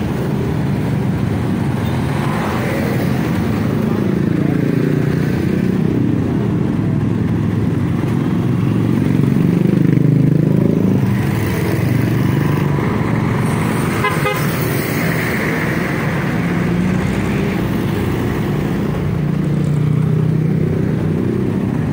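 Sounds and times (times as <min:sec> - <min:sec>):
vehicle engines rumbling: 0:00.0 - 0:21.9.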